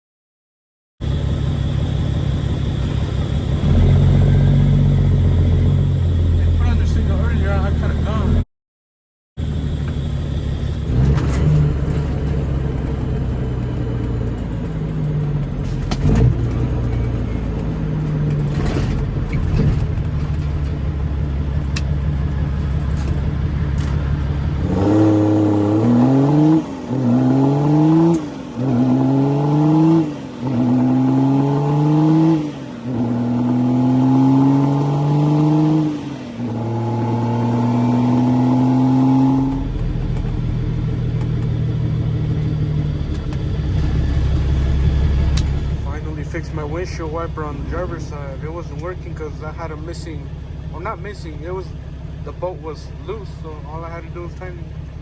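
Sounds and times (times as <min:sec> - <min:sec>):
diesel truck engine shifting gears: 0:01.0 - 0:08.4, 0:09.4 - 0:55.0.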